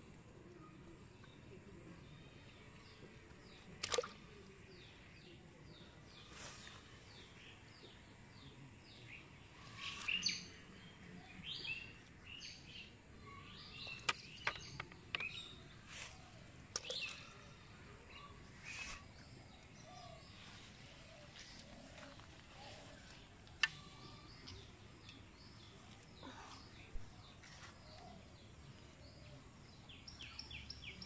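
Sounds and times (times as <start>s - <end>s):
birds chirping: 0.6s - 31.0s.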